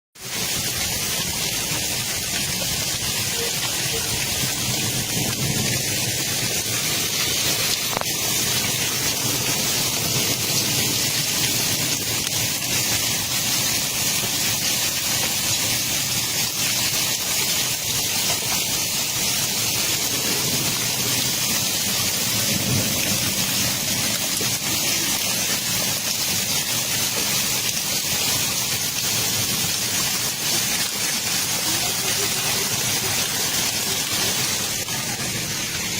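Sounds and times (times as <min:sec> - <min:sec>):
hail and heavy rain pelting: 0:00.2 - 0:35.9.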